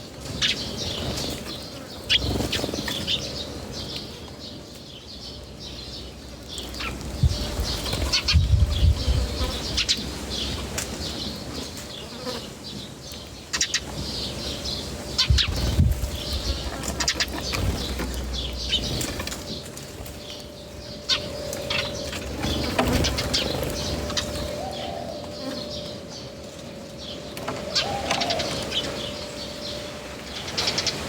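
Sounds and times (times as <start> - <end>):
birds pecking and scuffling: 0.0 - 31.0.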